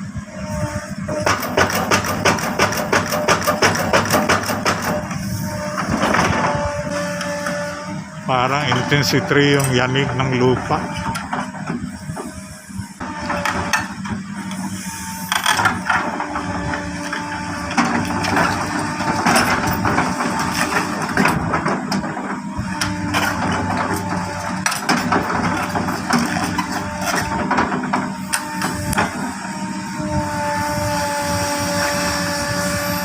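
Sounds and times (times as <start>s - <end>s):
excavator diesel engine: 0.0s - 33.0s.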